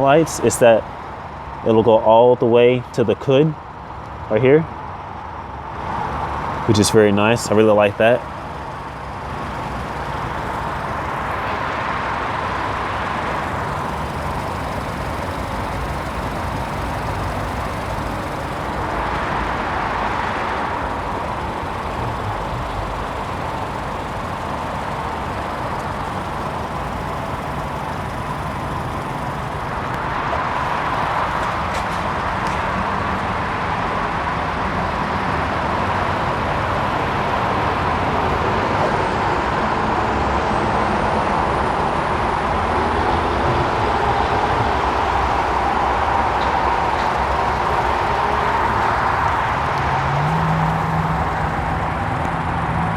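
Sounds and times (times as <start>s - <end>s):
traffic noise: 0.0s - 52.9s
vehicles passing by: 0.0s - 52.9s.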